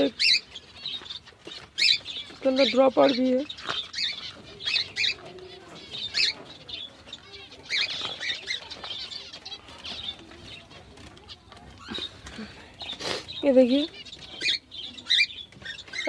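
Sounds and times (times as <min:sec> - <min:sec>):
cage birds chirping: 0:00.0 - 0:16.0
wings fluttering and rustling: 0:00.0 - 0:16.0.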